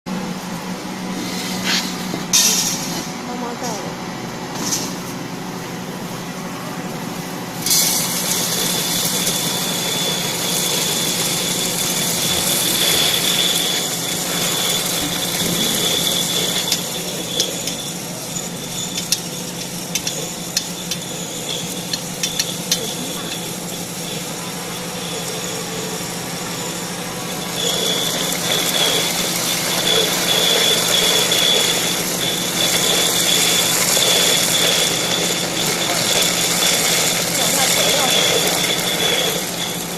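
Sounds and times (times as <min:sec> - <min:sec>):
high whine and grinding: 0:00.1 - 0:39.9
electric grinder humming: 0:07.6 - 0:39.9.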